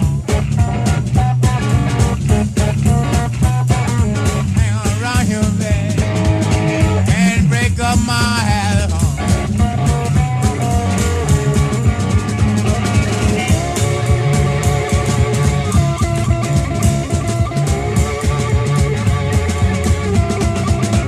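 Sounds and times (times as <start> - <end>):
drum kit steady beat: 0.0 - 21.0
electric guitar lead: 0.0 - 21.0
rhythm guitar: 0.0 - 21.0.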